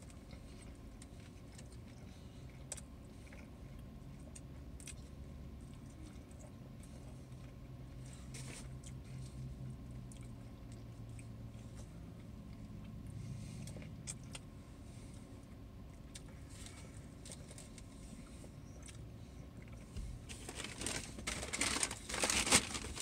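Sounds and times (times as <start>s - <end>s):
chewing and mouth noises: 0.0s - 21.2s
low car interior hum: 0.0s - 23.0s.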